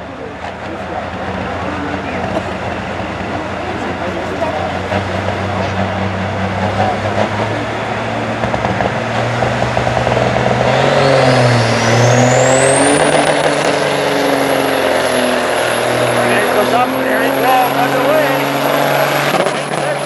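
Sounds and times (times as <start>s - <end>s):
diesel truck engine under load: 0.0s - 20.0s.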